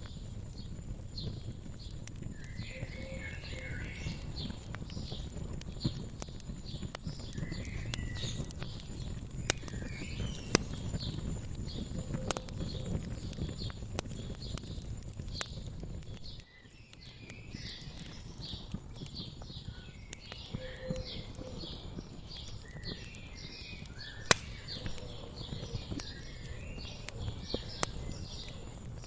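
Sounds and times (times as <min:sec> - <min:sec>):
small birds chirping: 0:00.0 - 0:29.0
wood fire crackling and popping: 0:00.0 - 0:29.0.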